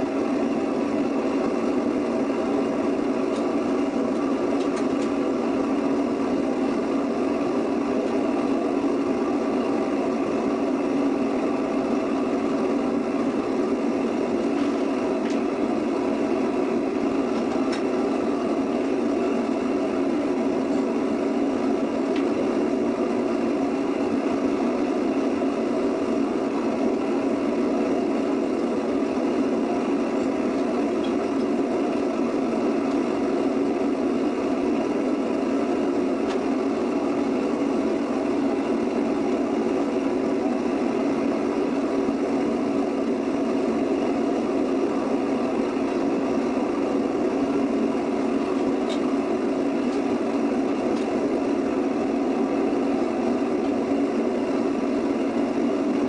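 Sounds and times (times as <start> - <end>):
furnace rushing roar: 0.0 - 56.0.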